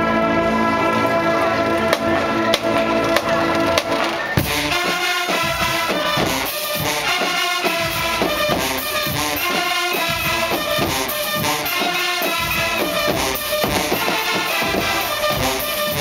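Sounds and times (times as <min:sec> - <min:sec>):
marching band brass: 0:00.0 - 0:16.0
drum and cymbal hits: 0:02.0 - 0:16.0.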